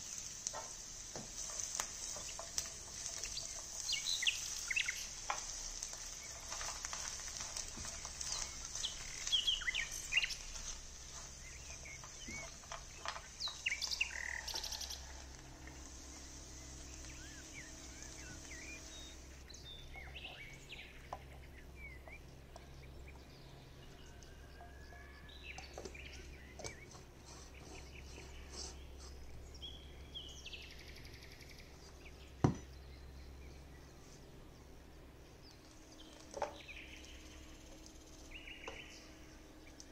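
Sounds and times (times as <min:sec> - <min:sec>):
steady high hiss: 0:00.0 - 0:21.1, 0:23.8 - 0:39.9
small birds chirping: 0:00.0 - 0:39.9.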